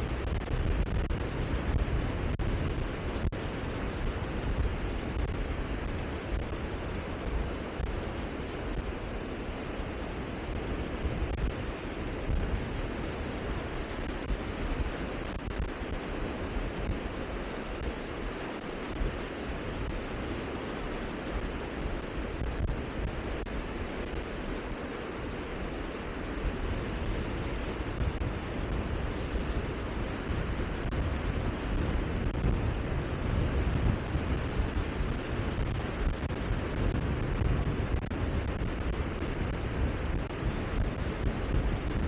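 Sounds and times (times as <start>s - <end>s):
rushing wind: 0.0s - 42.0s
wind buffeting microphone: 0.0s - 42.0s.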